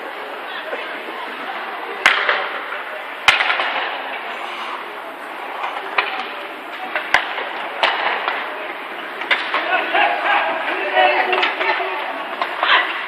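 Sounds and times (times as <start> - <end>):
hockey sticks and puck clacking: 0.0 - 13.0
skates scraping on ice: 0.6 - 13.0.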